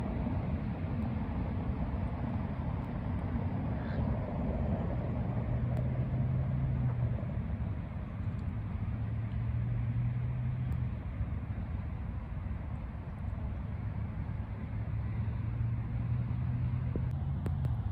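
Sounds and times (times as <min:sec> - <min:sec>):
low hum: 0:00.0 - 0:17.9
low outdoor rumble: 0:00.0 - 0:17.9.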